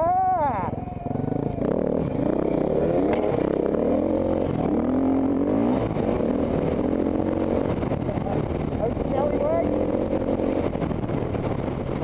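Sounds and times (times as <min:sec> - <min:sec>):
dirt bike engine revving: 0:00.6 - 0:12.0.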